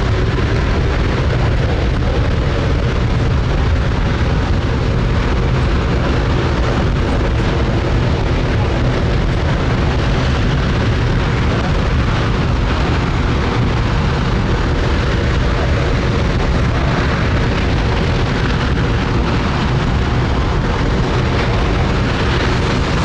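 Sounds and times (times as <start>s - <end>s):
rocket engine roaring: 0.0s - 23.0s.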